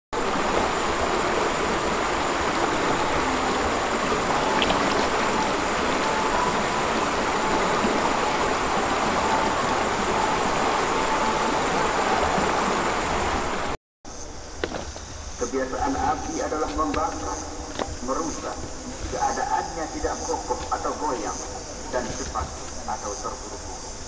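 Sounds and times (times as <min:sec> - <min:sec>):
river rushing: 0:00.2 - 0:13.8, 0:14.6 - 0:24.0.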